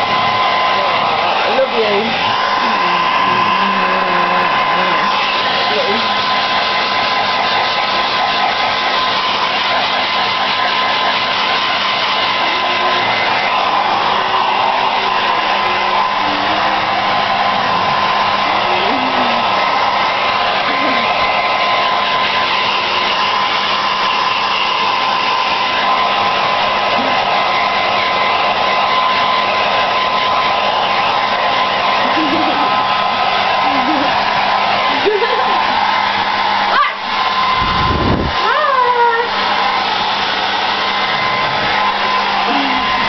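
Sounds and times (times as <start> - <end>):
hair dryer blowing: 0.0 - 43.0.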